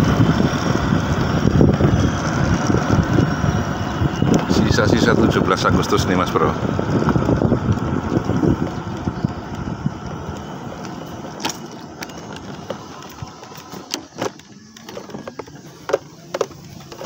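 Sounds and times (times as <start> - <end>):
wind rushing over microphone: 0.0 - 13.9
bicycle rolling noise: 0.0 - 17.0.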